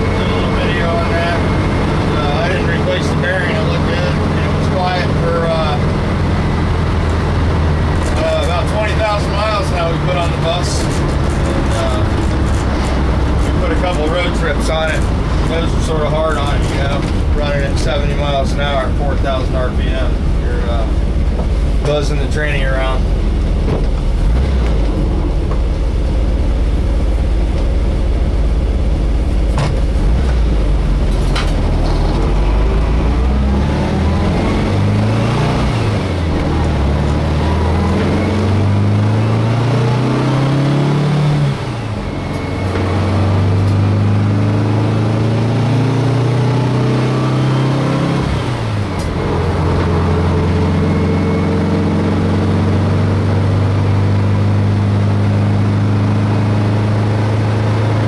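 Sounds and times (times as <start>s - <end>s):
engine pulling through gears: 0.0s - 58.0s
road and wind rumble: 0.0s - 58.0s.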